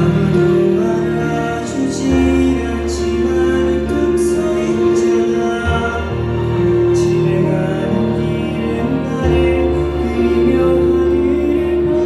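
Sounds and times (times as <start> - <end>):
instrumental accompaniment with bass: 0.0 - 12.0
man singing into a microphone: 0.0 - 12.0.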